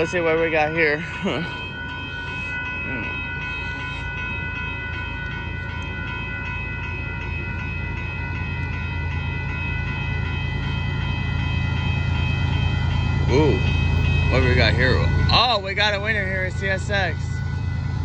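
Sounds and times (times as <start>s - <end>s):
freight train rumble: 0.0s - 18.0s
railroad crossing bell ringing: 0.0s - 18.0s.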